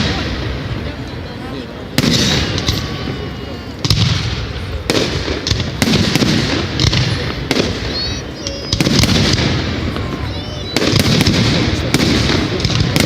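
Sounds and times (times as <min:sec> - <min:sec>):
fireworks bangs with crackling: 0:00.0 - 0:13.0
fireworks whistles: 0:01.9 - 0:13.0.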